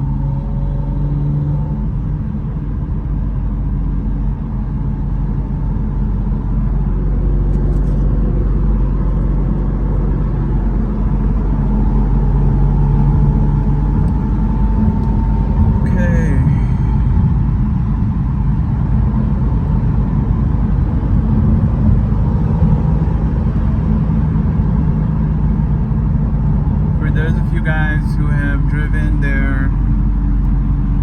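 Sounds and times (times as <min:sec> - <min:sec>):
car engine cruising: 0:00.0 - 0:31.0.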